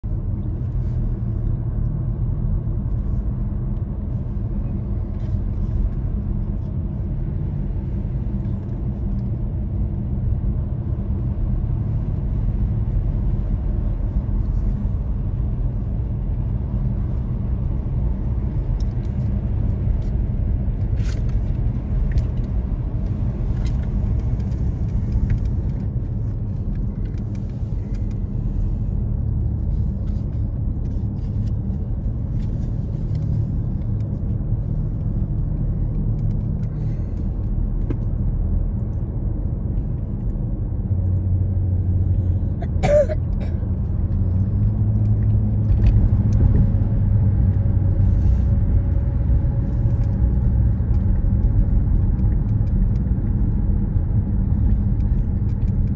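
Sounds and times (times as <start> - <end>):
car cabin road rumble: 0.0 - 55.9.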